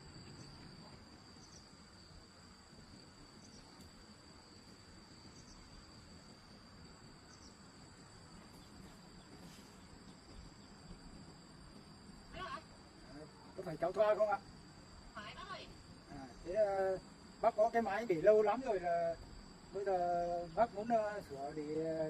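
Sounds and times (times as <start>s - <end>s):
crickets trilling: 0.0s - 22.0s
low background hiss: 0.0s - 22.0s.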